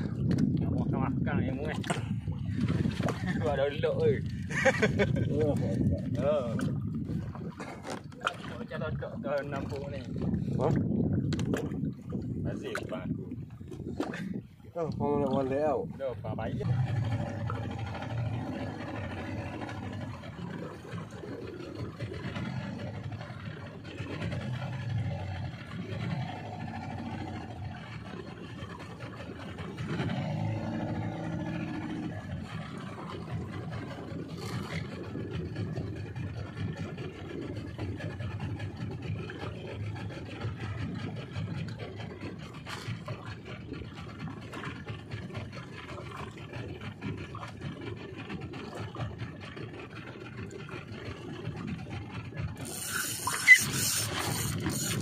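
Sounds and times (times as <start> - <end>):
boat engine running: 0.0 - 55.0
water: 0.0 - 55.0
wind: 0.0 - 55.0.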